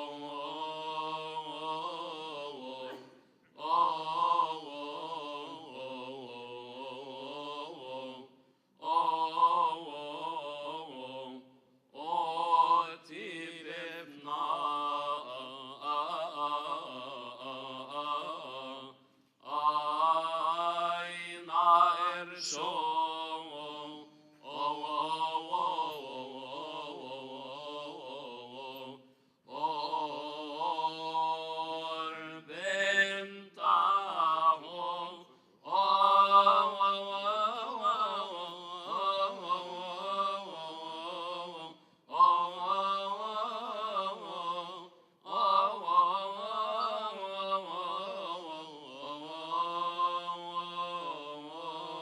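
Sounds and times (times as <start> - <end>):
person chanting: 0.0 - 52.0.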